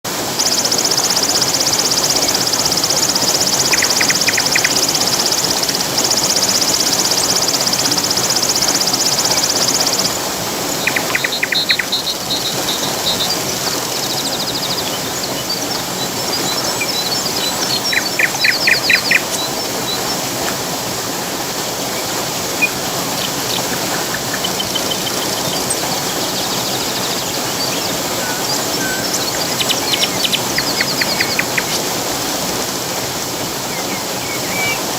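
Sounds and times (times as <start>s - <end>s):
rushing falling water: 0.0s - 34.9s
birds chirping: 0.2s - 34.9s
high rapid bird trill: 0.4s - 20.3s, 21.9s - 32.3s.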